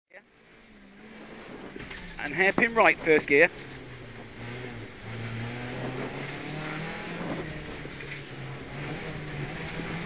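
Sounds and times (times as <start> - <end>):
car engine at low revs: 0.2 - 10.0.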